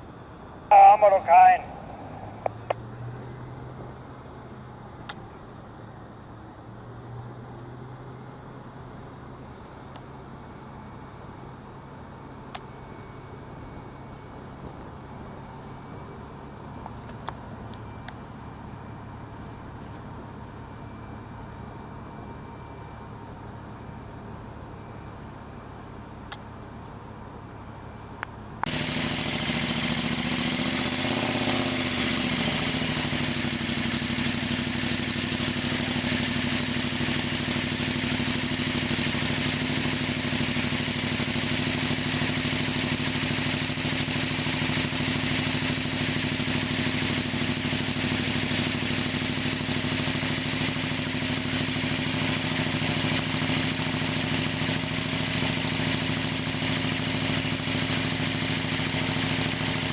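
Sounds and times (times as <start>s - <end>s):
motor engine running: 0.0s - 59.9s.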